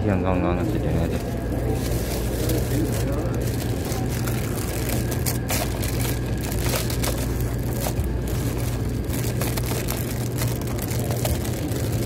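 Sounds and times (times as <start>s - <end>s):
train humming: 0.0s - 12.0s.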